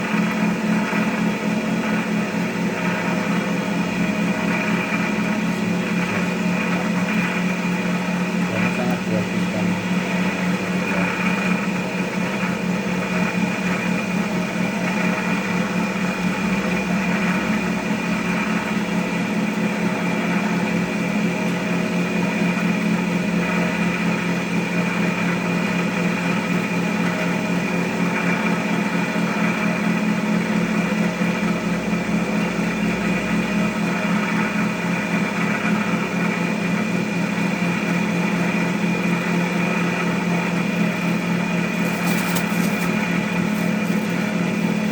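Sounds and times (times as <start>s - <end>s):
cotton candy machine humming: 0.0s - 44.9s.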